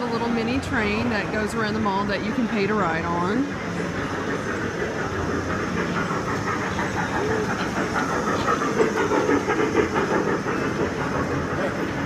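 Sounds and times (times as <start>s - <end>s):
small train rhythmic chugging: 0.0s - 12.0s.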